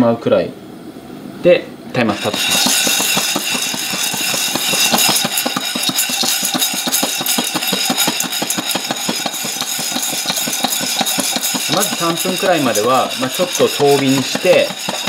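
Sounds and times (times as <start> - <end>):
coffee beans rattling in a pot: 2.0 - 15.0.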